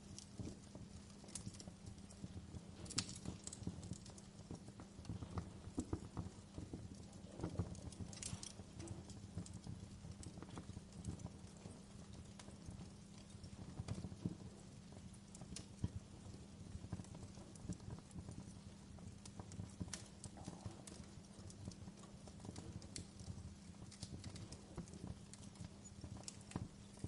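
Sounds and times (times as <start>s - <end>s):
faint low hum: 0.0s - 27.0s
wood fire crackling: 0.0s - 27.0s.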